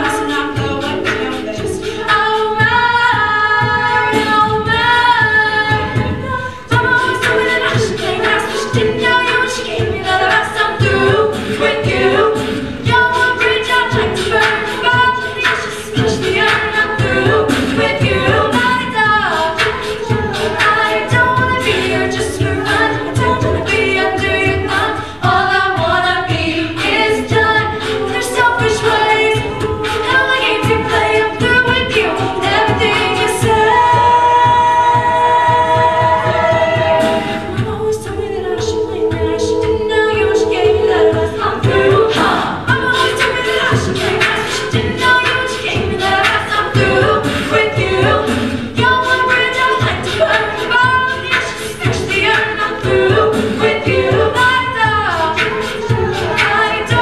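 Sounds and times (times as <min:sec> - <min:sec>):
a cappella group singing in harmony: 0:00.0 - 0:57.0
vocal percussion beat: 0:00.0 - 0:57.0.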